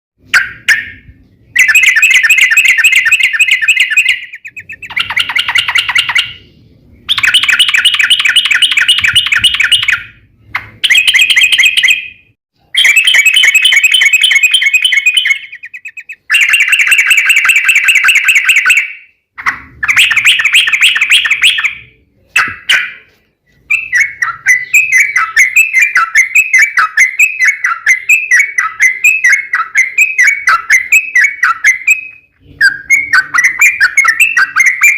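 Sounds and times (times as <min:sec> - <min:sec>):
bulbul singing fast rolling trills: 0:00.2 - 0:19.2, 0:19.8 - 0:34.9.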